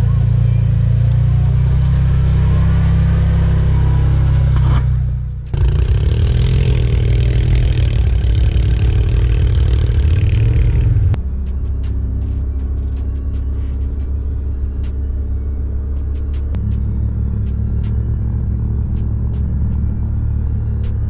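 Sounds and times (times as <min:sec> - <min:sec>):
off-road vehicle driving by: 0:00.0 - 0:21.0
quad bike engine revving: 0:00.0 - 0:21.0.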